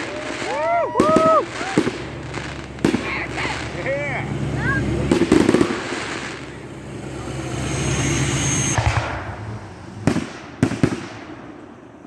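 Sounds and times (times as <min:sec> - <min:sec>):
firework whistle: 0:00.0 - 0:11.0
firework bang: 0:00.0 - 0:11.7
sharp firework cracks: 0:00.0 - 0:11.9.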